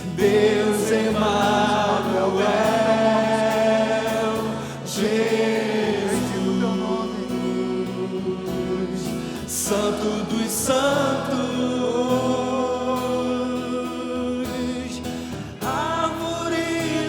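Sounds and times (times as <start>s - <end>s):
voices singing held notes: 0.0s - 14.7s.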